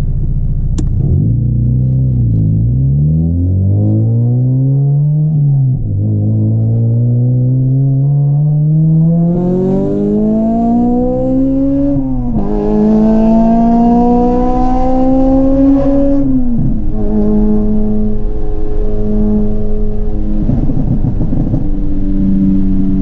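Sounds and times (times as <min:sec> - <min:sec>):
car engine accelerating hard: 0:00.7 - 0:23.0.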